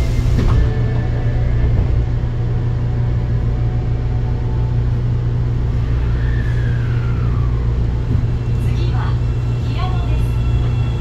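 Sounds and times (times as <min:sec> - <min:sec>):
subway train hum and rumble: 0:00.0 - 0:11.0.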